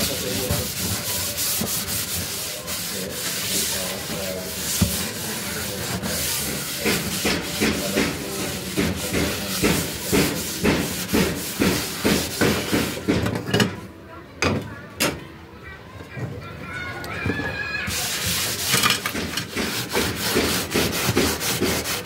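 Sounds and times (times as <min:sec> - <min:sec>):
sponge scrubbing cooker top: 0:00.0 - 0:13.3, 0:17.4 - 0:22.0.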